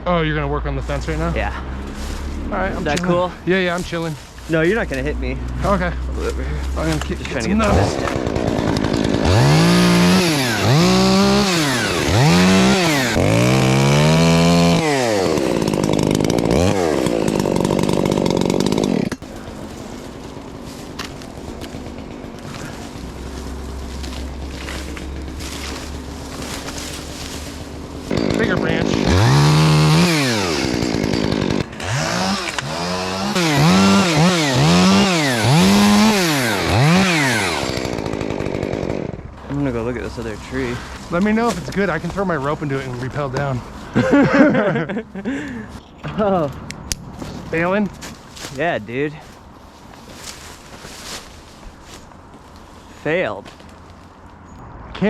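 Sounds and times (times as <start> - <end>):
chainsaw revving: 1.1 - 3.8, 4.5 - 46.6.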